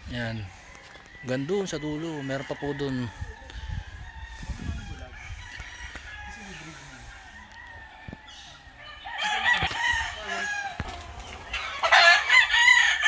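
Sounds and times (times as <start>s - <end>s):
roosters crowing: 0.0s - 13.0s.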